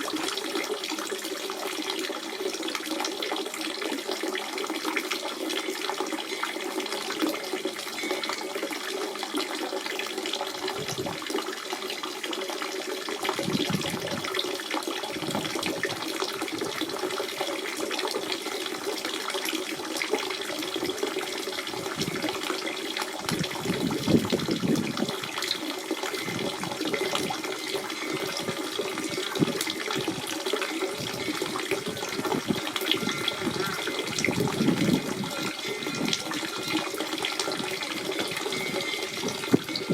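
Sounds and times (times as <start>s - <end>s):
spring water running and splashing: 0.0s - 39.9s.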